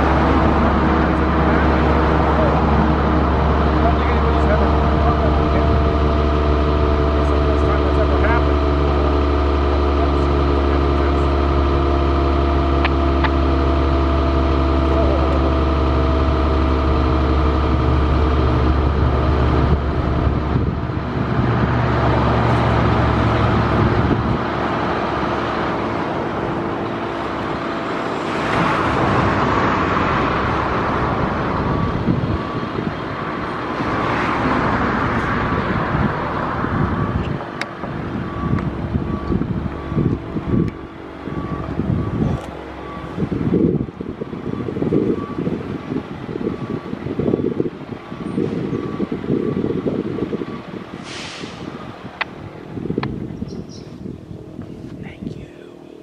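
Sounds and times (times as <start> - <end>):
rushing noise of passing traffic: 0.0 - 56.0
vehicle engine idling: 0.0 - 56.0.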